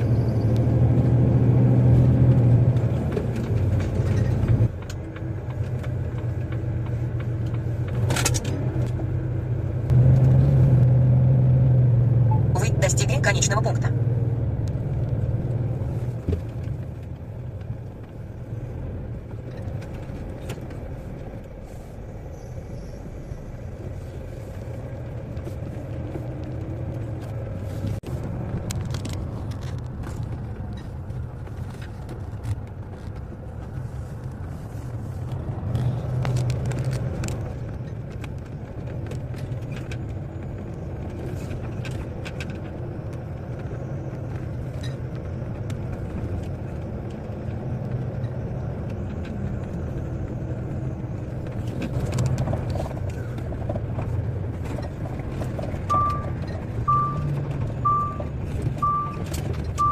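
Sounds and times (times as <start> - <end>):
lorry diesel engine droning: 0.0 - 59.9.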